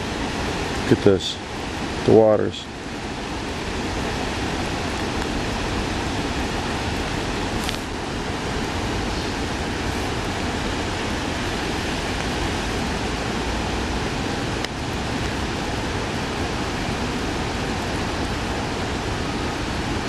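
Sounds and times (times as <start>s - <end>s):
flooded creek rushing: 0.0s - 20.0s.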